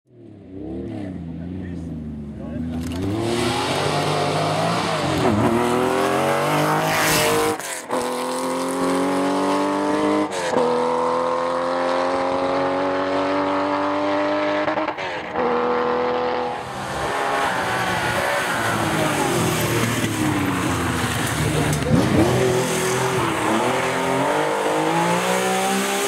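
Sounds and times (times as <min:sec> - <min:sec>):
rally car engine at full throttle: 0:00.1 - 0:26.0.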